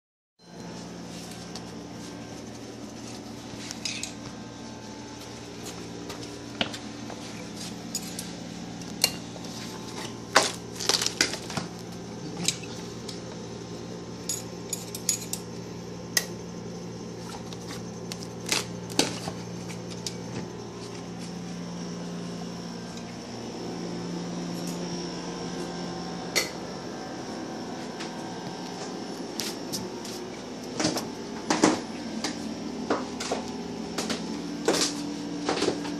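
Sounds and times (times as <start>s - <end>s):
steady low hum: 0.4s - 35.9s.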